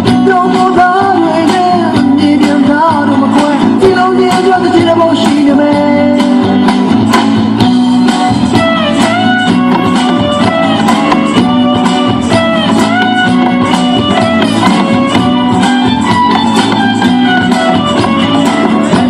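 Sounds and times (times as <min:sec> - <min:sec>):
guitar music with steady beat: 0:00.0 - 0:19.0.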